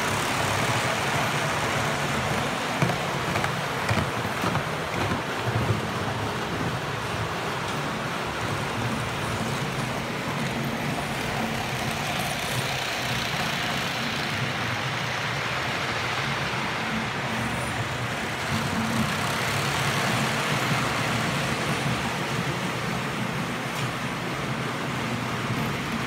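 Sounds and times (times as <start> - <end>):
model train running on rails: 0.0 - 26.0.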